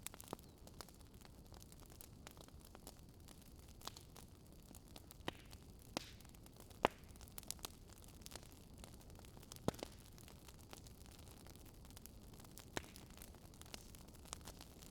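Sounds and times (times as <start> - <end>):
fire crackling and popping: 0.0 - 14.9.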